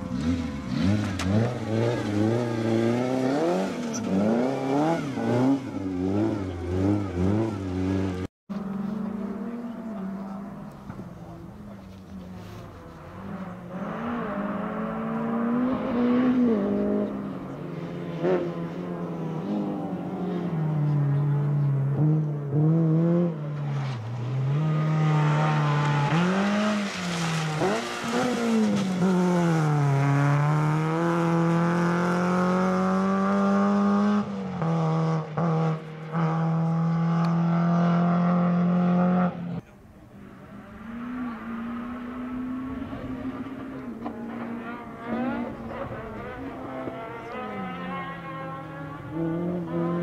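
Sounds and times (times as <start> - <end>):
distant rally car engine revving: 0.0 - 50.0
rally car engine at full throttle: 0.0 - 50.0.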